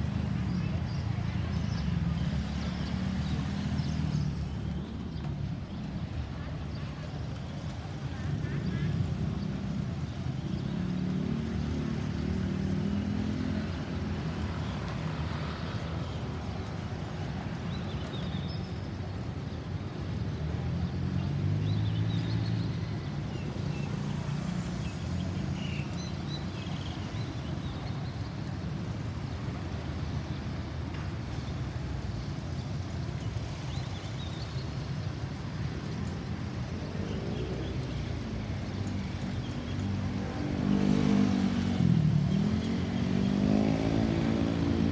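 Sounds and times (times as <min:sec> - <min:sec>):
vehicle engines passing: 0:00.0 - 0:18.3, 0:19.0 - 0:44.9
steady traffic rumble: 0:00.0 - 0:44.9.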